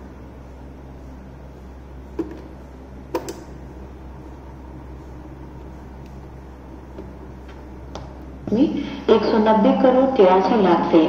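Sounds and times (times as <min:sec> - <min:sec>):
speaker low hum: 0:00.0 - 0:11.0.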